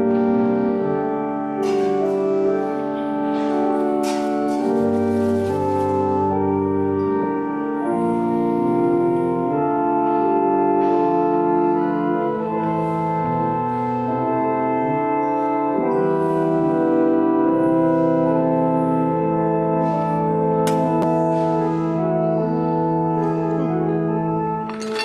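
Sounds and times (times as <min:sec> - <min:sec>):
church organ chords: 0:00.0 - 0:25.0.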